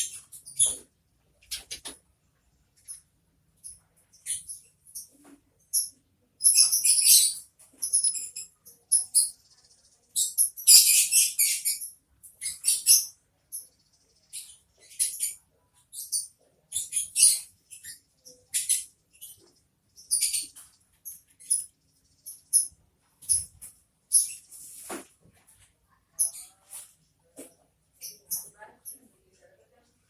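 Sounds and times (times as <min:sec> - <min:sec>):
sparrows chirping: 0:00.0 - 0:24.9, 0:26.0 - 0:30.0.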